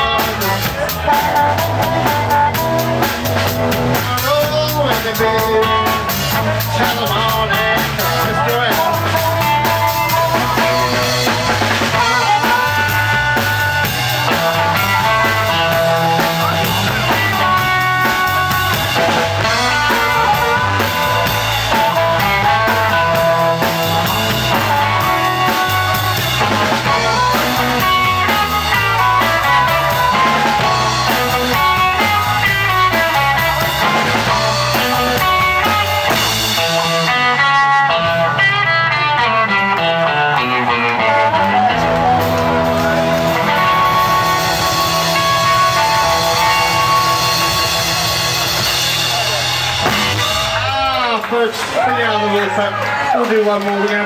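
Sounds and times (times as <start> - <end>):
harmonica lead: 0.0 - 50.9
bass line: 0.0 - 52.7
drums: 0.0 - 54.0
electric guitar: 0.0 - 54.0.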